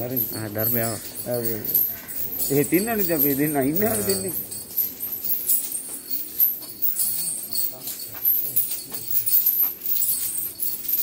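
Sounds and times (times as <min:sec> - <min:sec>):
metallic jingling of elephant gear: 0:00.0 - 0:11.0.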